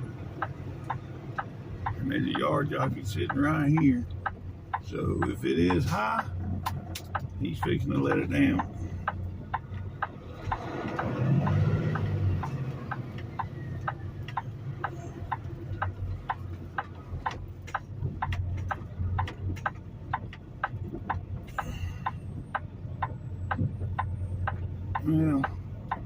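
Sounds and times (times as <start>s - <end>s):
diesel engine running: 0.0s - 26.0s
turn signal ticking: 0.0s - 26.0s.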